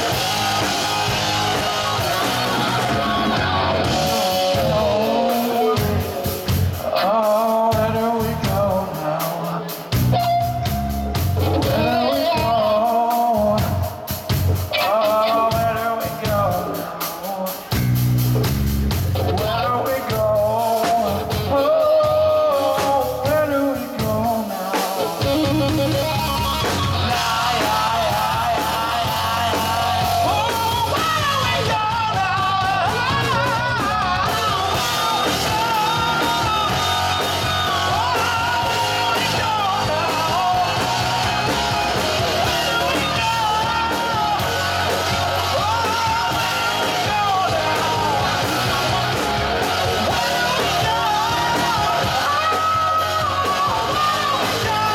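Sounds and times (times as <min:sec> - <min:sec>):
person singing: 0:00.0 - 0:17.8, 0:19.2 - 0:54.9
live rock band playing: 0:00.0 - 0:54.9.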